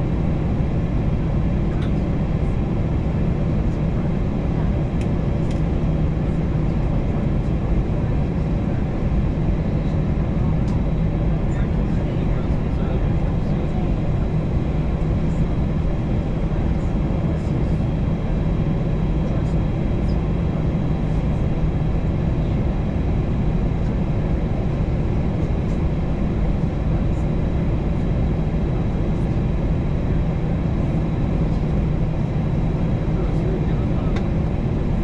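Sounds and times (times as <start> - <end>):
airplane cabin engine drone: 0.0 - 35.0.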